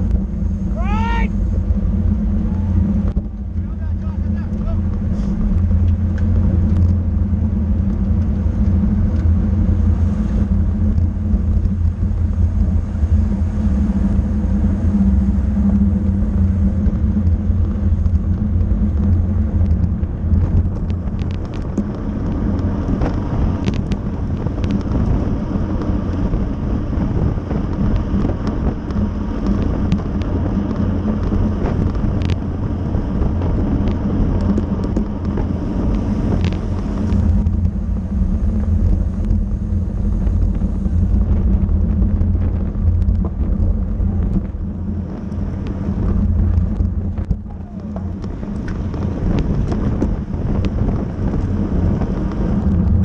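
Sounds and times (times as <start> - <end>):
road rumble: 0.0 - 53.0
wind rush and buffeting: 0.0 - 53.0.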